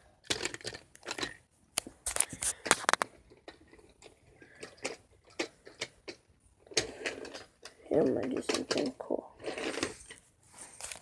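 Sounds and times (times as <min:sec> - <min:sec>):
plastic bricks clicking and rattling: 0:00.1 - 0:10.2.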